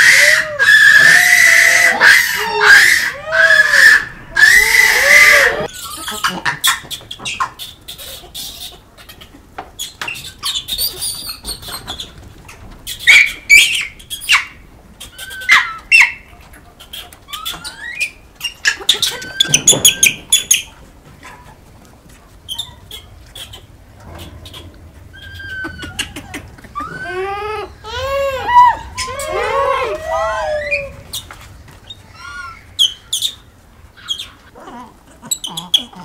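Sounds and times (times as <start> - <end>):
monkeys squeaking and chirping: 0.0 - 21.6, 22.4 - 36.0.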